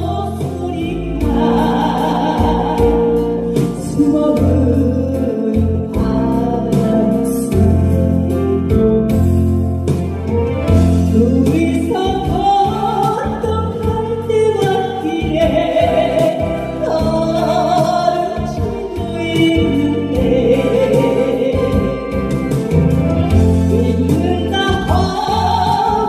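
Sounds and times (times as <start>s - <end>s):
woman singing with vibrato: 0.0s - 9.3s, 10.8s - 26.0s
backing track with steady beat: 0.0s - 26.0s.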